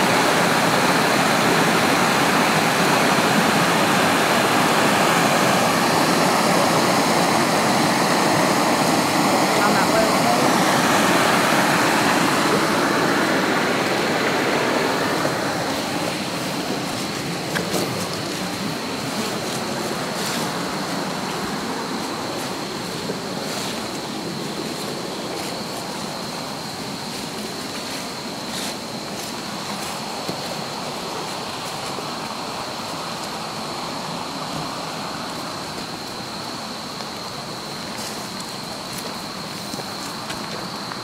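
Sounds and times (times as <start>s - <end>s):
steady rushing noise: 0.0s - 41.0s
thin high whine: 0.0s - 41.0s.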